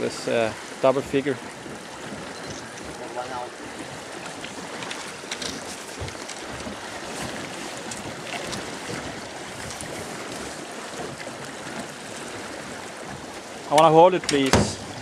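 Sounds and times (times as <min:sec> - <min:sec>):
wind rumbling on microphone: 0:00.0 - 0:13.4
river water rushing around hull: 0:00.0 - 0:15.0
small splashes: 0:00.0 - 0:15.0.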